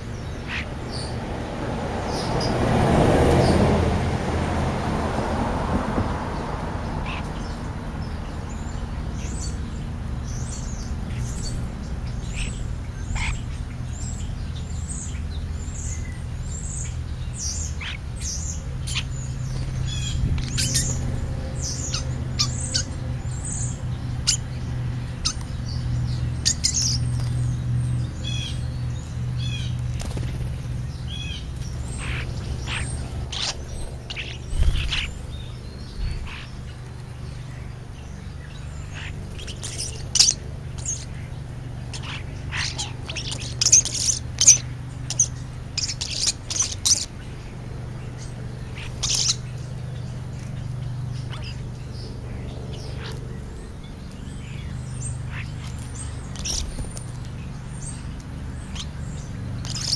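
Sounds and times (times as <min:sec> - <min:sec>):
starlings chirping and whistling: 0:00.0 - 0:01.3, 0:06.9 - 0:59.9.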